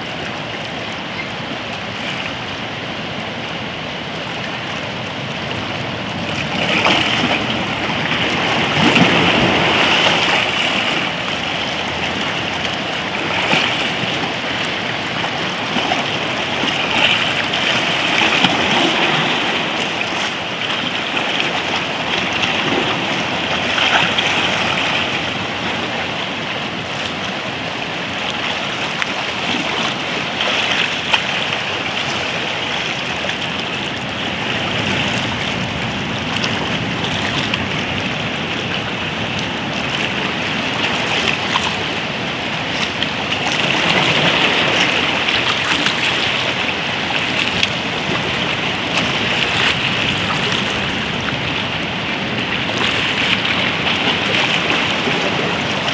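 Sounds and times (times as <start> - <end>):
waves splashing around rocks: 0.0 - 55.9.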